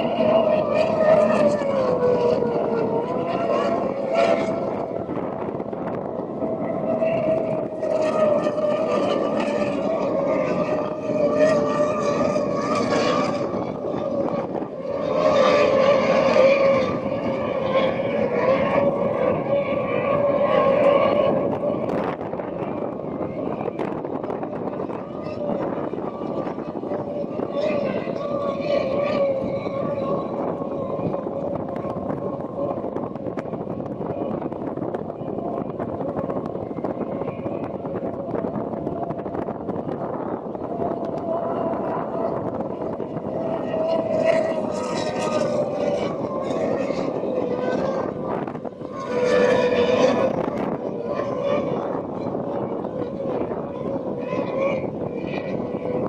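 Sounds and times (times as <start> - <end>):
powerboat engines at high revs: 0.0 - 56.0.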